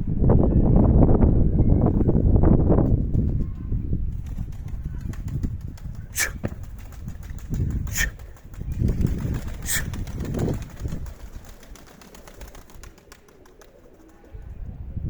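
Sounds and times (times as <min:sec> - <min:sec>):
wind buffeting microphone: 0:00.0 - 0:13.2, 0:14.0 - 0:15.0.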